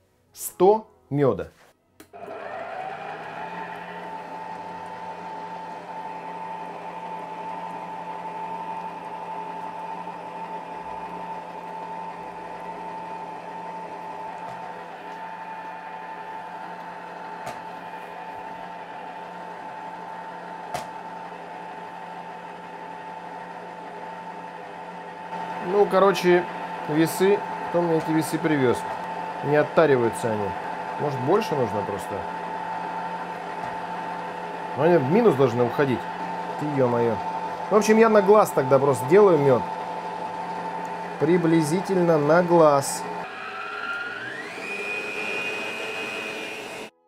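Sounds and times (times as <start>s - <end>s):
stand mixer motor whine: 2.1s - 47.0s.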